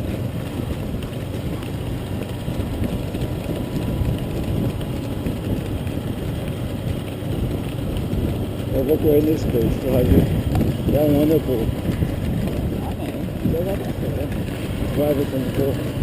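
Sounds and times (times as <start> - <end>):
road noise: 0.0 - 16.0
vehicle engine rumbling: 0.0 - 16.0
wind noise: 0.0 - 16.0.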